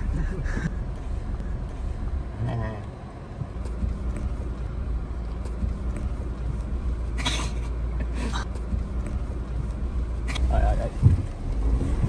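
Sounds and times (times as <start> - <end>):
engine and drivetrain rumble: 0.0 - 12.0.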